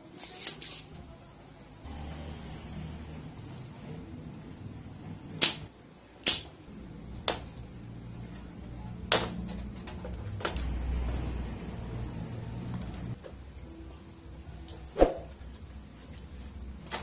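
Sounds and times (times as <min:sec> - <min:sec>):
low television hum: 0:00.0 - 0:17.0.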